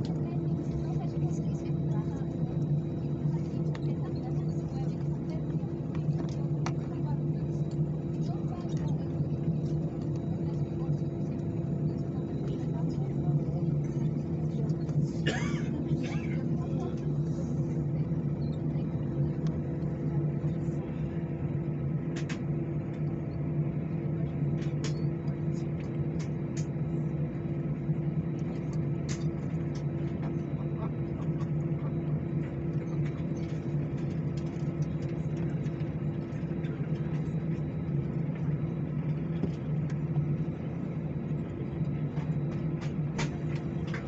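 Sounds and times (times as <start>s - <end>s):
airliner cabin drone: 0.0s - 44.0s.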